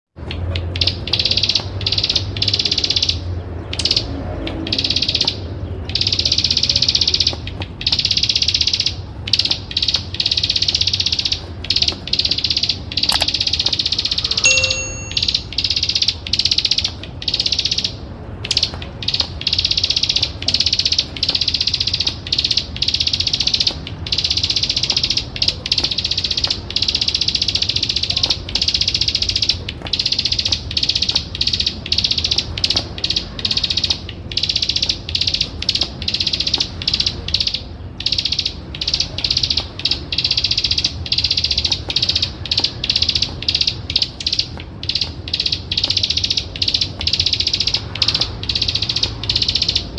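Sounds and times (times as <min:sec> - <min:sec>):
bird rattling trill: 0:00.6 - 0:49.9.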